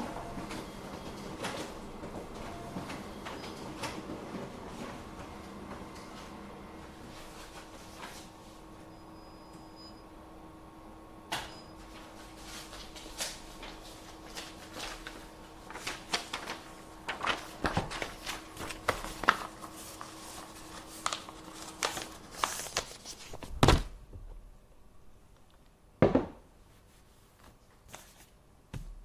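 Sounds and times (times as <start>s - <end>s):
faint machine hum: 0.0s - 29.0s.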